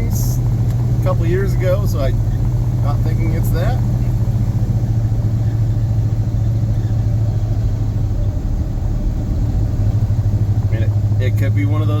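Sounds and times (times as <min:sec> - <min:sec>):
engine droning in truck cab: 0:00.0 - 0:12.0.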